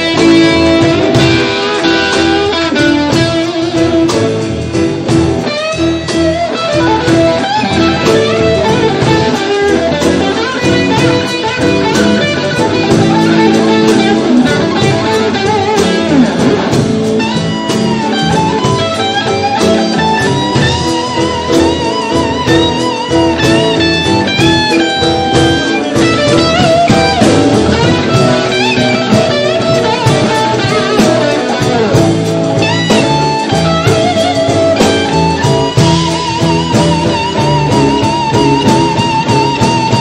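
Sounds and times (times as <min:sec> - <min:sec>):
drums: 0:00.0 - 0:40.0
electric guitar: 0:00.0 - 0:40.0.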